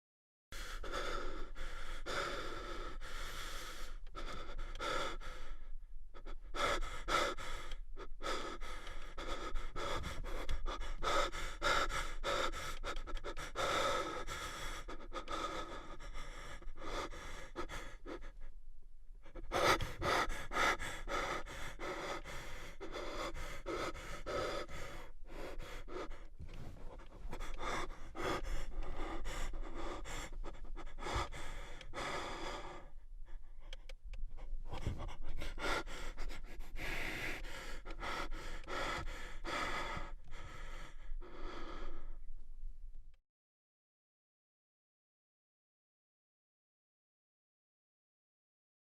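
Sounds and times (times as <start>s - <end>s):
man breathing heavily: 0.5s - 18.6s, 19.2s - 42.4s.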